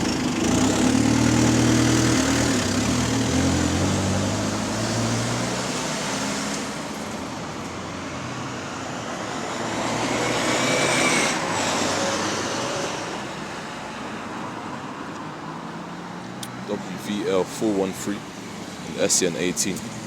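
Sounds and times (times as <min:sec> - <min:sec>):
bus driving past: 0:00.0 - 0:20.0.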